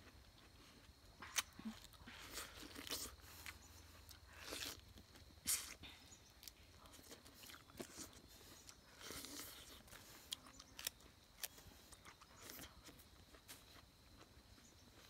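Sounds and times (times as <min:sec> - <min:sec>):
person chewing juicy fruit: 0:00.0 - 0:15.0.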